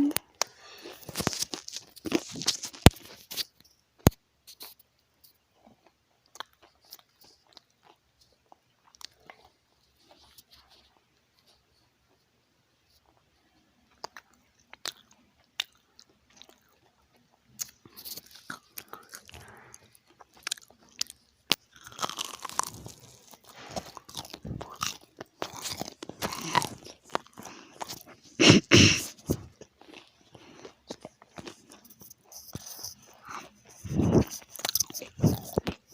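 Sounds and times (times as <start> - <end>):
person chewing crunchy food: 0.4 - 4.8, 5.5 - 11.7, 13.8 - 35.9.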